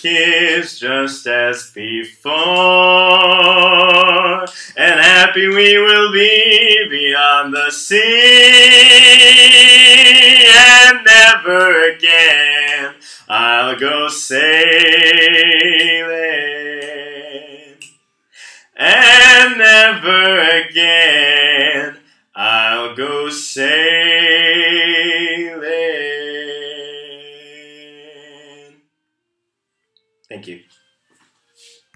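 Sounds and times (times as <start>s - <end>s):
man singing a cappella: 0.0s - 28.9s.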